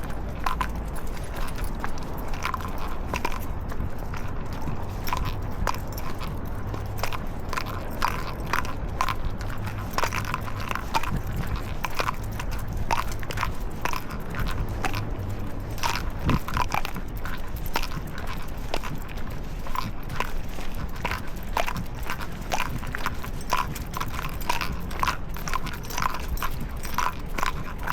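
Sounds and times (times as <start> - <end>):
footsteps clicking and tapping: 0.0 - 27.9.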